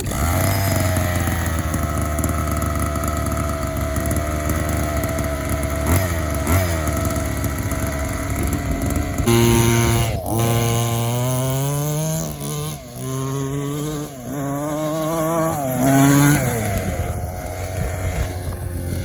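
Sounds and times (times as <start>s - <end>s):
small two-stroke engine idling: 0.0s - 19.0s.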